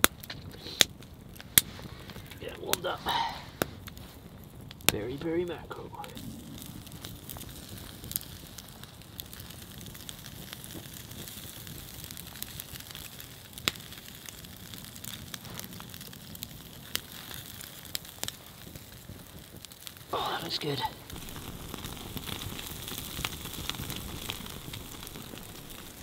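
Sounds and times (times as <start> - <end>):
campfire crackling hiss: 0.0 - 26.0
sharp fire pops: 0.0 - 26.0.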